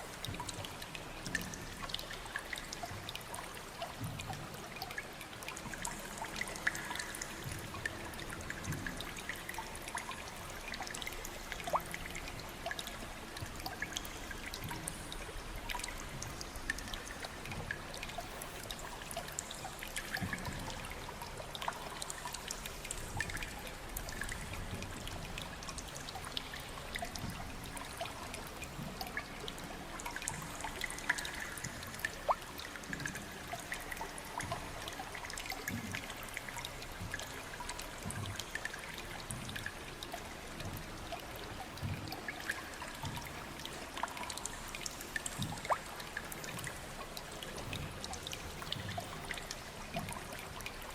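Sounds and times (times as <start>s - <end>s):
water drips and splashes: 0.0s - 50.9s
water trickling: 0.0s - 50.9s.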